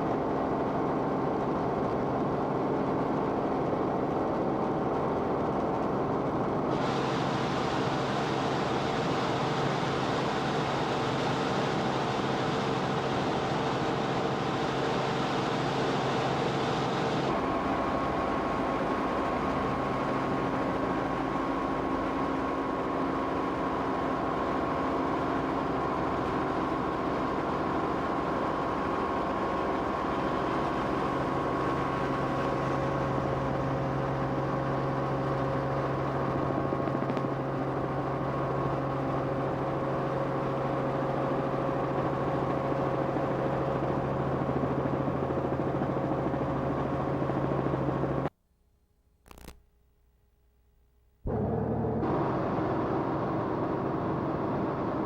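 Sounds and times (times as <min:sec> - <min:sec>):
aircraft engine drone: 0:06.5 - 0:48.3, 0:51.3 - 0:55.0.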